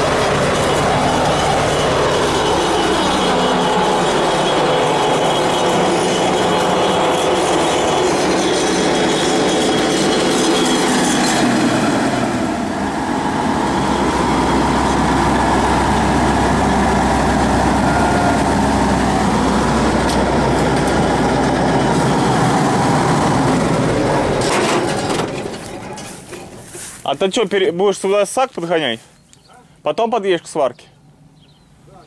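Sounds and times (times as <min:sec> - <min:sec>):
deep hum: 0:00.0 - 0:10.6, 0:11.4 - 0:26.7
combine harvester engine: 0:00.0 - 0:28.8.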